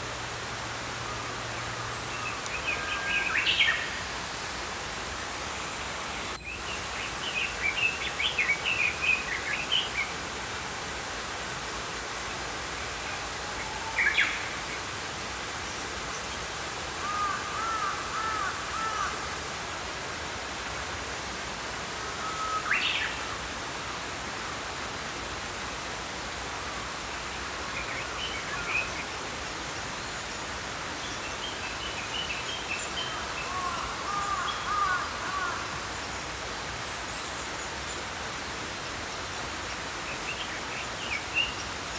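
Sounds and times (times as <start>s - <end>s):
stream flowing: 0.0s - 41.9s.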